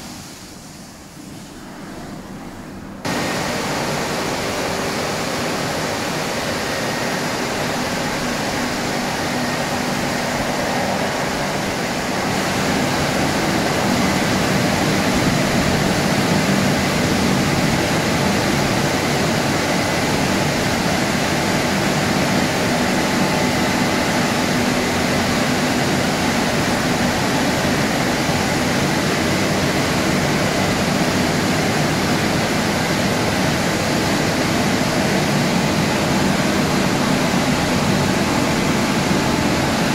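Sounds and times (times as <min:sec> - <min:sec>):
car wash machine hum: 0:00.0 - 0:39.9
water spray rushing: 0:03.0 - 0:39.9.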